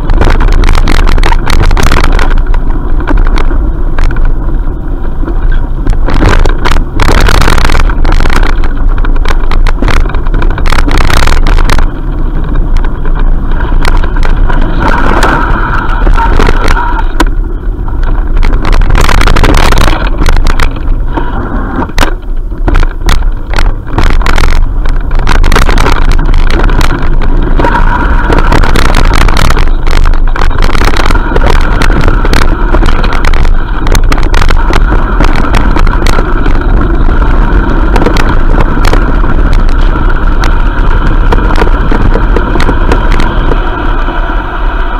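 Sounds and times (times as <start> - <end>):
bike knocks and rattles: 0.0 - 43.9
wind rumble on microphone: 0.0 - 44.9.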